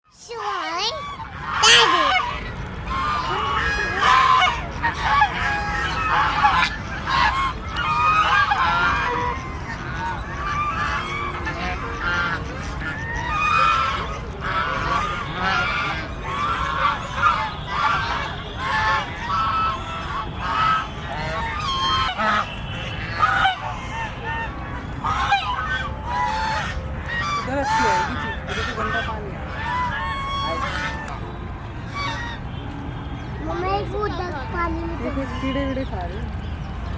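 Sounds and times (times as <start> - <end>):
ducks quacking: 0.1 - 36.9.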